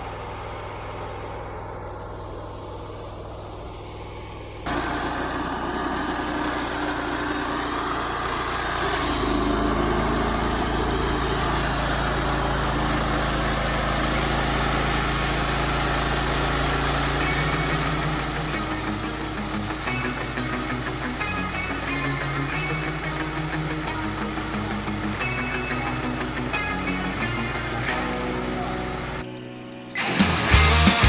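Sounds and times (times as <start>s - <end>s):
sawmill engine running: 0.0s - 31.0s
steady high hiss: 4.7s - 30.0s.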